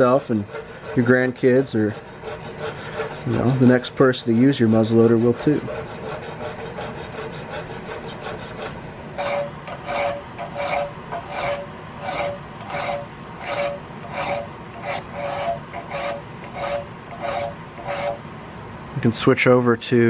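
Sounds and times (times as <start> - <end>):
file scraping metal: 0.0 - 18.2.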